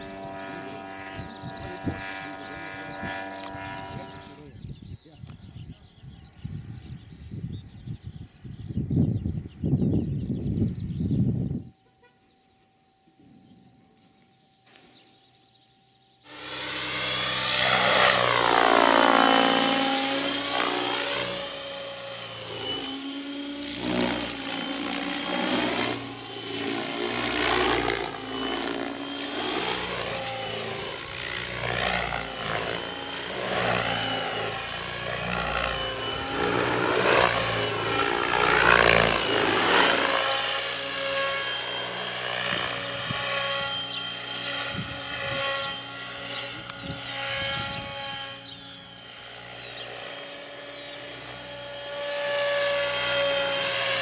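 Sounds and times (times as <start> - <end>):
model helicopter rotor whine: 0.0 - 12.0, 13.0 - 54.0.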